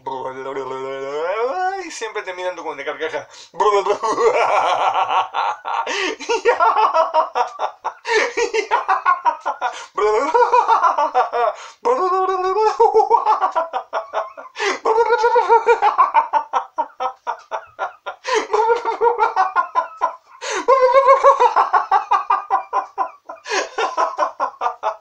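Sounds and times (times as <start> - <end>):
man laughing loudly: 3.6 - 25.0.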